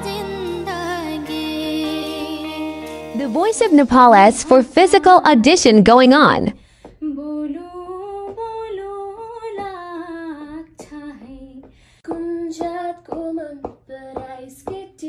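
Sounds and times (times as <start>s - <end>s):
woman singing unaccompanied: 0.0s - 3.8s, 4.4s - 15.0s.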